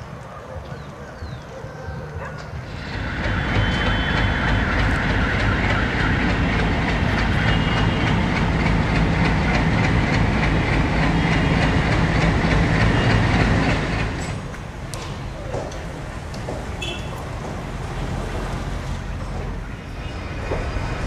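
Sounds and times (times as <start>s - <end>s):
train rumbling on rails: 0.0s - 21.0s
wheels clicking over rail joints: 2.1s - 21.0s.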